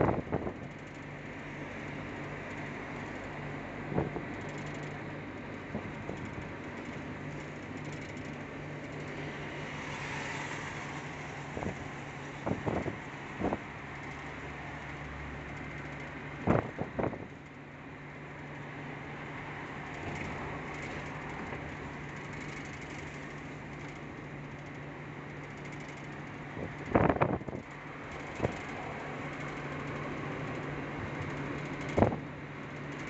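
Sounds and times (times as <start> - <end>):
vehicle engine and road drone: 0.0 - 33.0.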